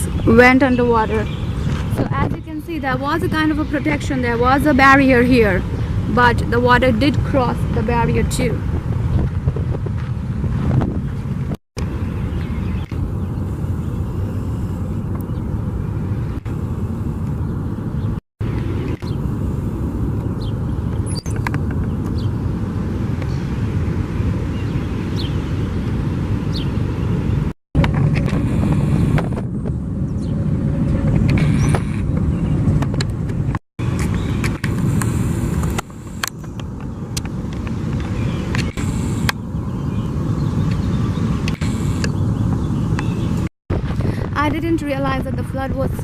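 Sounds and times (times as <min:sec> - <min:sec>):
outdoor rumbling noise: 0:00.0 - 0:46.0.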